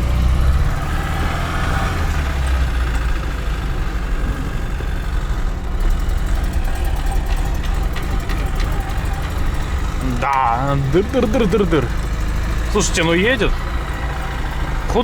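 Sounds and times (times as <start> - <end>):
rough car engine rumble: 0.0 - 15.0.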